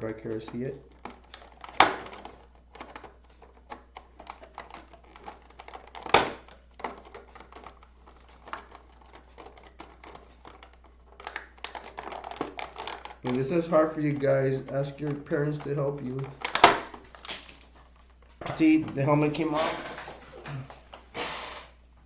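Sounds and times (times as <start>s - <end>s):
plastic packaging clicks and rustles: 0.1s - 21.7s.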